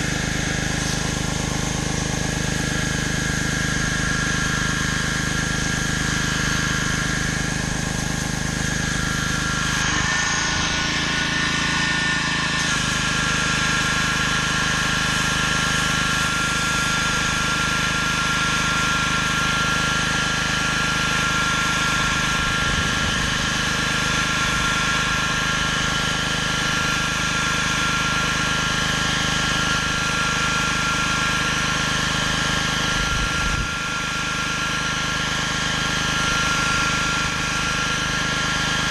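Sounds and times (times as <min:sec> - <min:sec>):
pressure washer engine running: 0:00.0 - 0:38.9
water spraying on concrete: 0:00.0 - 0:38.9.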